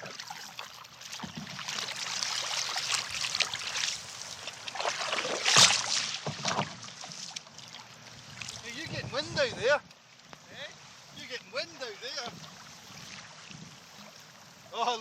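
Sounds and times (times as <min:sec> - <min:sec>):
water splashing around canoe: 0:00.0 - 0:15.0.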